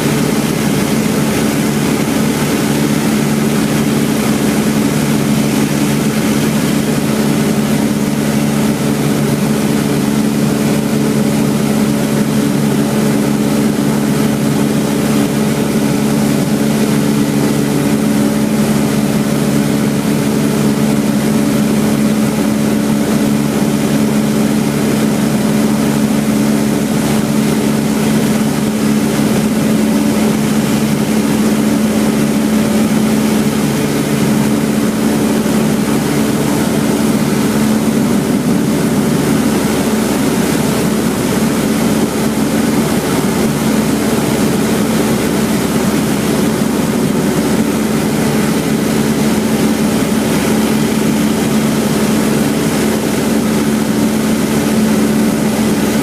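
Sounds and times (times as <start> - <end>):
small plane engine drone: 0.0 - 56.0.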